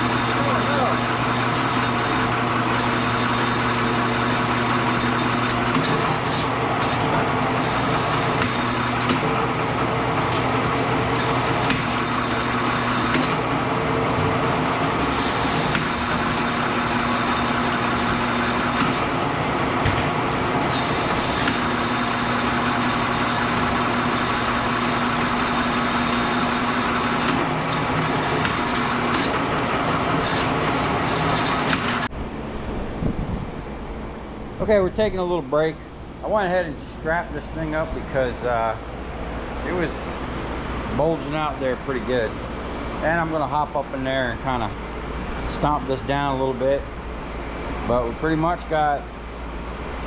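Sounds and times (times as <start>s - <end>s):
machine droning with low hum: 0.0s - 50.0s.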